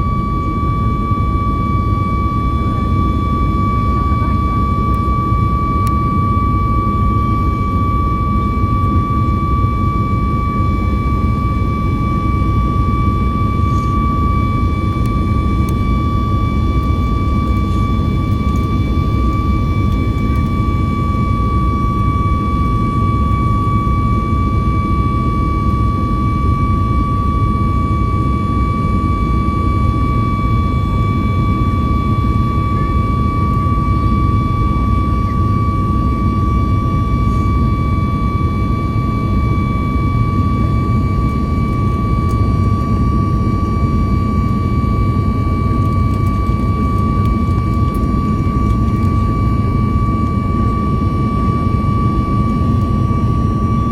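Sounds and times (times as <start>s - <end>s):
jet engines in cabin: 0.0s - 53.9s.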